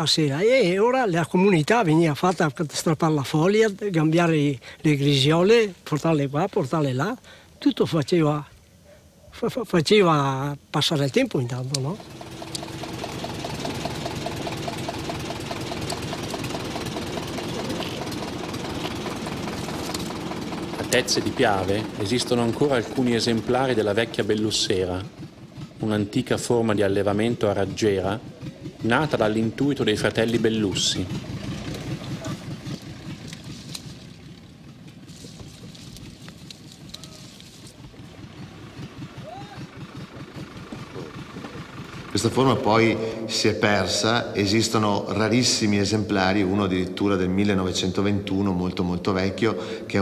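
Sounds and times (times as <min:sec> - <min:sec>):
tractor engine chugging: 0:00.0 - 0:07.6, 0:11.5 - 0:50.0.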